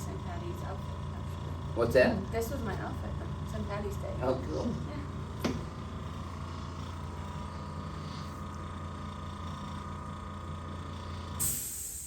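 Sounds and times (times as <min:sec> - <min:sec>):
electric motor humming: 0:00.0 - 0:11.7.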